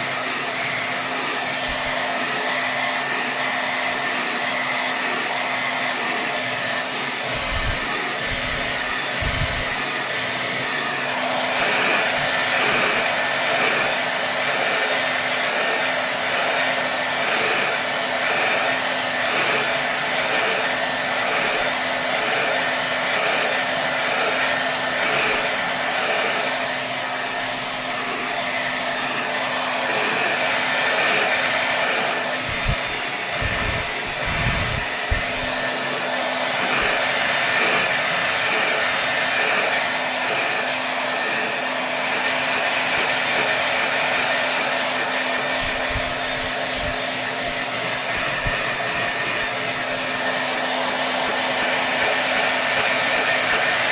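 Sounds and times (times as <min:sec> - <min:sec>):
hair dryer blowing: 0:00.0 - 0:53.9.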